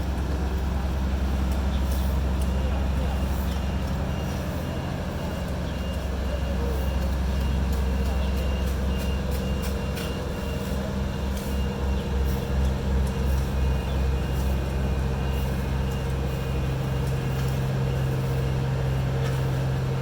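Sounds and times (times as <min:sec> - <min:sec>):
diesel paving machinery running: 0:00.0 - 0:20.0.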